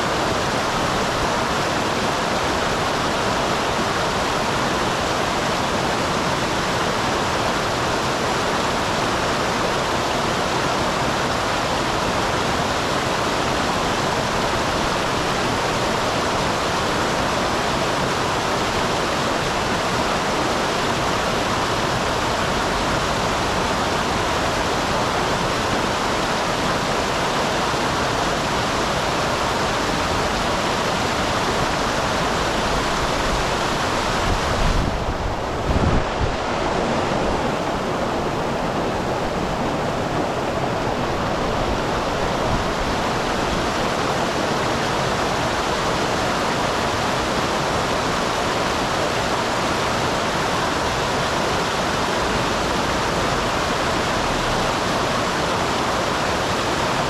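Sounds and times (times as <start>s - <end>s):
water rushing over waterfall: 0.0s - 57.0s.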